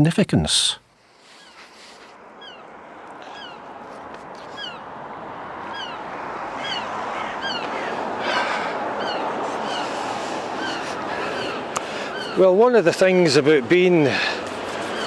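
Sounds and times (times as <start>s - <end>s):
seagulls calling: 1.2s - 13.5s, 14.1s - 15.0s
steady rushing background noise: 2.0s - 15.0s.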